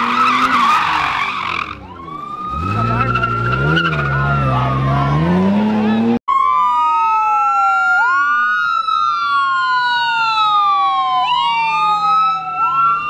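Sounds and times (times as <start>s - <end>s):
ambulance siren wailing: 0.0s - 13.0s.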